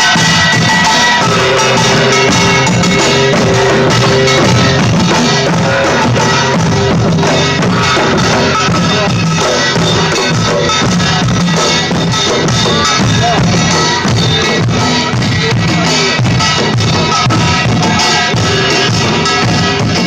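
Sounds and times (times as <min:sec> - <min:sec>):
drum kit beat: 0:00.0 - 0:20.0
live band music: 0:00.0 - 0:20.0.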